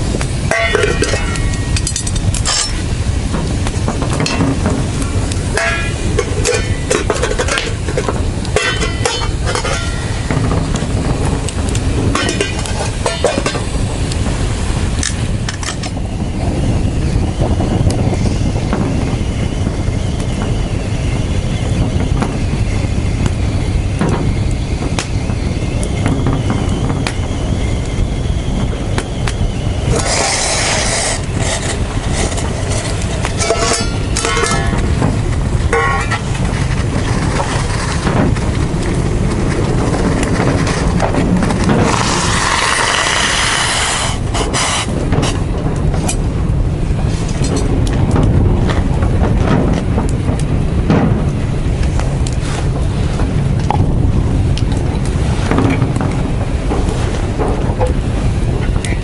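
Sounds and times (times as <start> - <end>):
bonfire crackling and popping: 0.0 - 59.0
fire hissing rush: 0.0 - 59.0
low rumble: 0.0 - 59.0.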